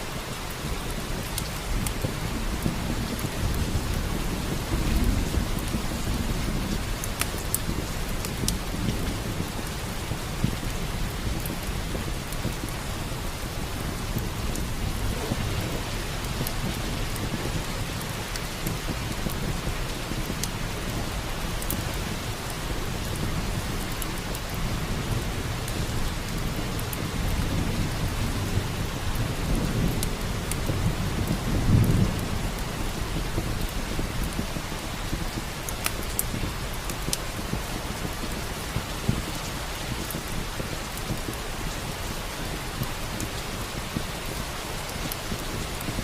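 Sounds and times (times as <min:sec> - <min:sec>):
heavy rain: 0:00.0 - 0:46.0
wood fire crackling: 0:00.0 - 0:46.0
thunder rumbling: 0:00.6 - 0:44.4.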